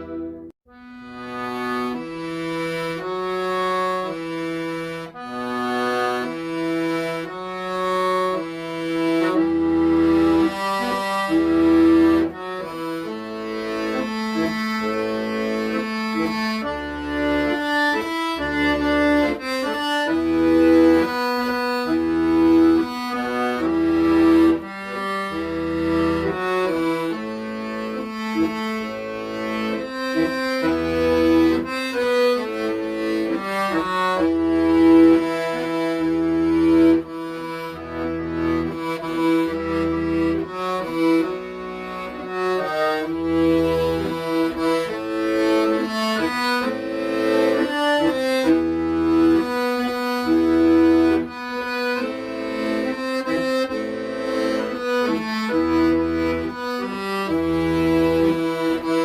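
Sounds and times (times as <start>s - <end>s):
accordion playing slow melody: 0.0s - 59.0s
low bass notes: 0.0s - 59.0s.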